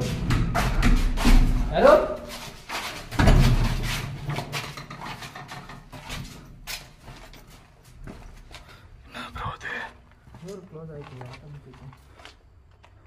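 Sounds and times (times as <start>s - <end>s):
small knocks and shuffles: 0.0s - 9.0s, 9.9s - 13.0s.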